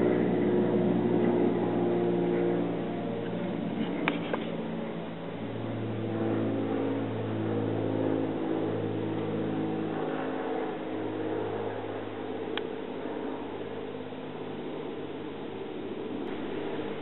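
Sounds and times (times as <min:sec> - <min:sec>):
propeller airplane engine drone: 0:00.0 - 0:17.0.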